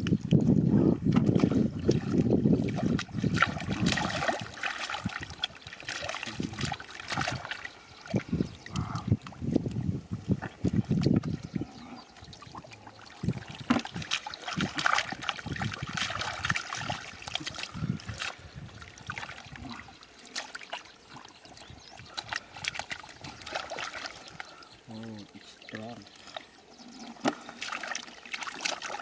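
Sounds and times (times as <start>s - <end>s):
shallow water splashing: 1.1s - 29.0s.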